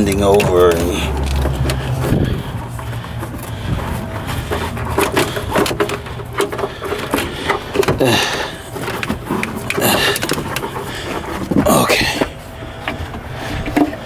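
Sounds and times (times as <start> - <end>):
panel scraping: 0.0 - 14.0.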